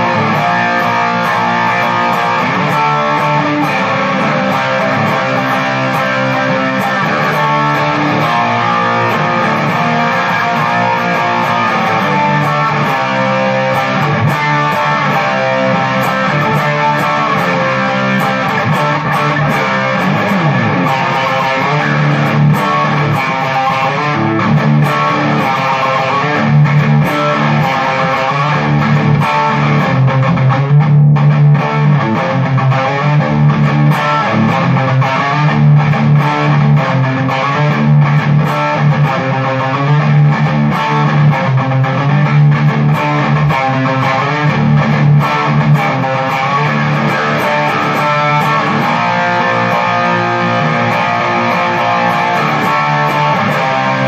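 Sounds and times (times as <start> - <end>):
electric guitar riff: 0.0 - 54.0.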